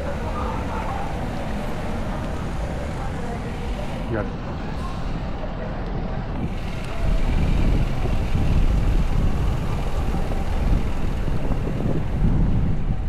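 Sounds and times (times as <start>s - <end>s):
street traffic: 0.0s - 13.0s
wind buffeting microphone: 0.0s - 13.0s.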